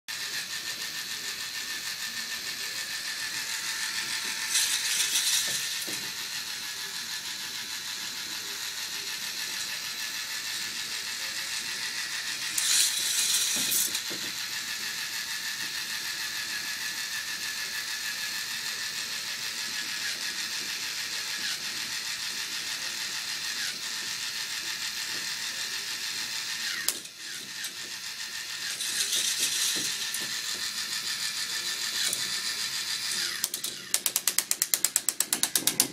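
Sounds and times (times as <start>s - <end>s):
toy chain lift ratcheting clatter: 0.1s - 35.9s.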